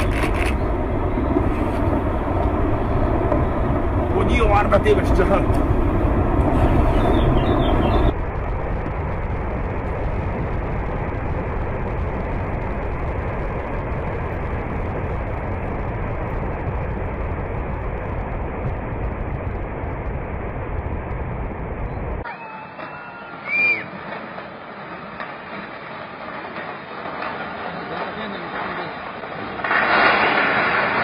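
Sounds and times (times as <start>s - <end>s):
rockslide roaring: 0.0s - 31.0s.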